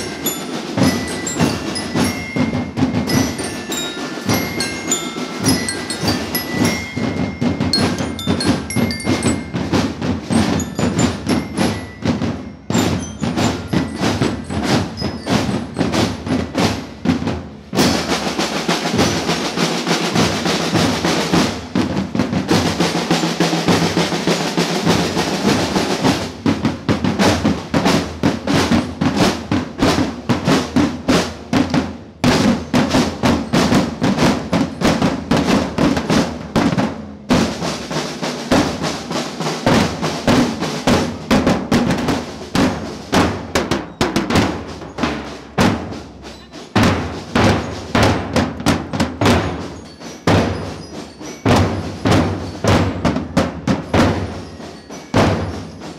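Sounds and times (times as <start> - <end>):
snare drums: 0.0 - 55.9.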